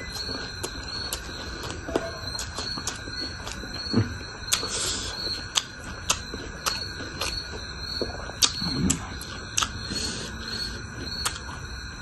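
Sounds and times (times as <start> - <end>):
chewing crunchy food: 0.0 - 11.8.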